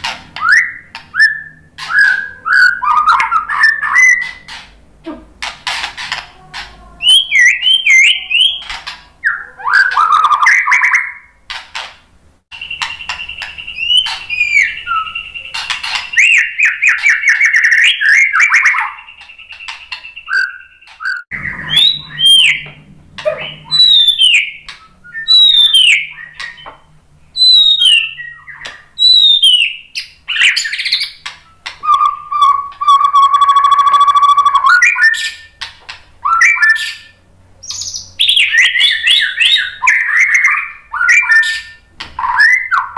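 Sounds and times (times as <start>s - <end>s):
bird singing whistled song: 0.4s - 4.6s, 7.0s - 11.3s, 12.5s - 22.8s, 23.4s - 35.6s, 36.2s - 42.9s.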